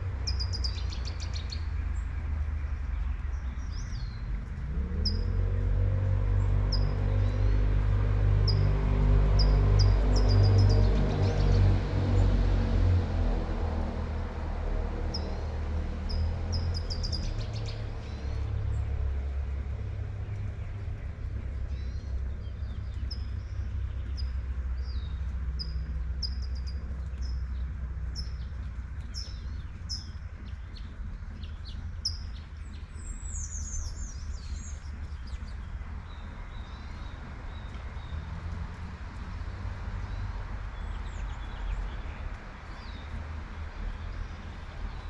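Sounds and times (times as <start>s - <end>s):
light rain: 0.0s - 45.0s
traffic rumble: 0.0s - 45.0s
songbird chirping: 0.1s - 13.9s, 15.0s - 45.0s
vehicle passing: 4.2s - 31.8s, 33.8s - 45.0s.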